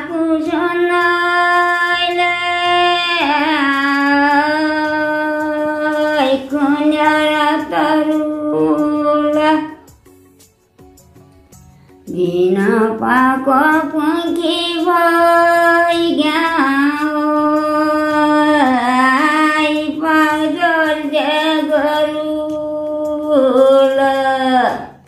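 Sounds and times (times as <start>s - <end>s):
elderly woman singing: 0.0s - 9.8s, 12.1s - 24.9s.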